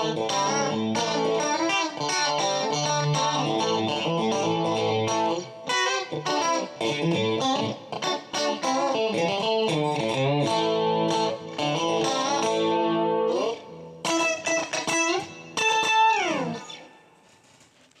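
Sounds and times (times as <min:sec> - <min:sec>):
clean electric guitar chords: 0:00.0 - 0:16.9.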